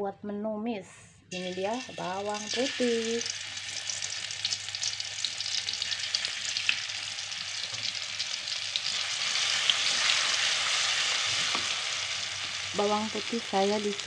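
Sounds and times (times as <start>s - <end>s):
oil sizzling in a frying pan: 1.3s - 14.0s.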